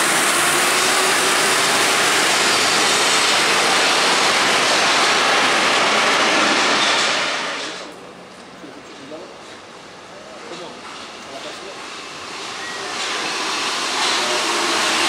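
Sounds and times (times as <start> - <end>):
train rushing and rumbling: 0.0 - 15.0.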